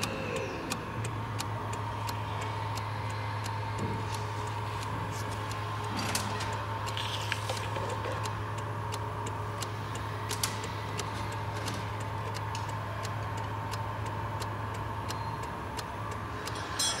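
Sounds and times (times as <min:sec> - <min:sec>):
car engine running: 0:00.0 - 0:16.8
light irregular ticking: 0:00.0 - 0:17.0.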